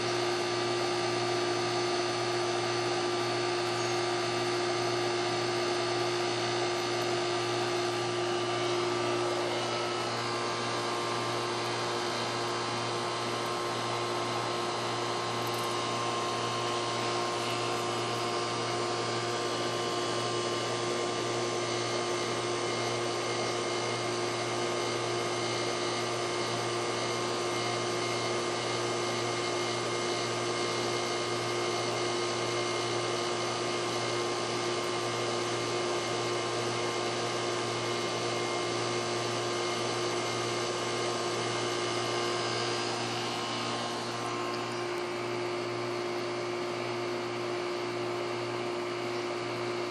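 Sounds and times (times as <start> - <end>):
machine hum with whine: 0.0 - 49.9.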